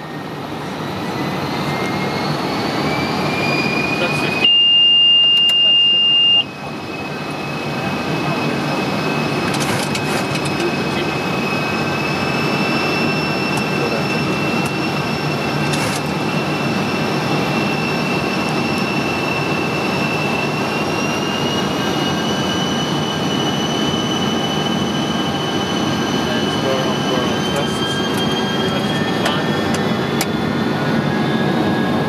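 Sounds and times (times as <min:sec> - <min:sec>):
airflow and engine rush: 0:00.0 - 0:32.0
high steady whine: 0:00.0 - 0:32.0.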